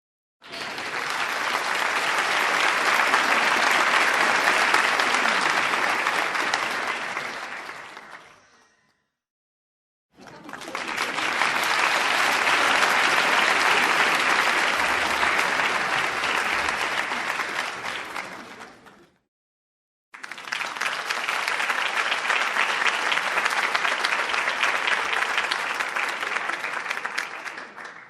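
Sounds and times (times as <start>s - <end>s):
crowd applause: 0.4s - 8.5s, 10.2s - 19.2s, 20.2s - 28.0s.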